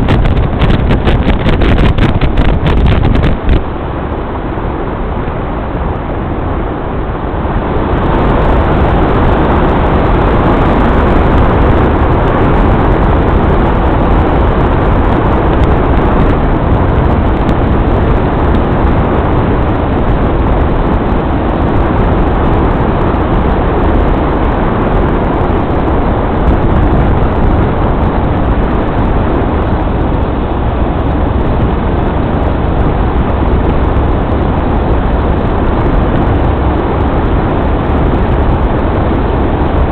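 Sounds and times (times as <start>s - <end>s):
vehicle road and wind noise: 0.0s - 39.9s.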